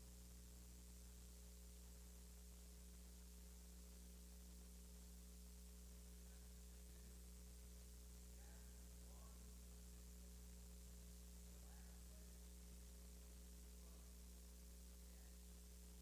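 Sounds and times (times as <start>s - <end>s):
faint hiss: 0.0s - 16.0s
low electrical hum: 0.0s - 16.0s.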